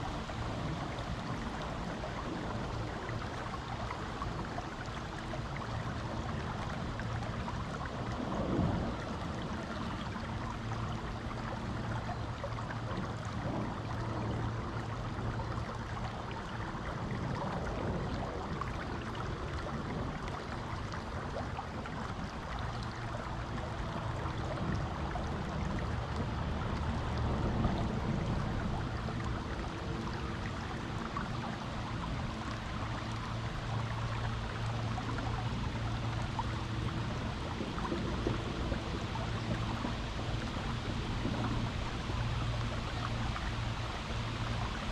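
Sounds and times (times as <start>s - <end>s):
creek water rushing over rocks: 0.0s - 44.9s
faint low hum: 0.0s - 44.9s
water splashes: 0.0s - 44.9s.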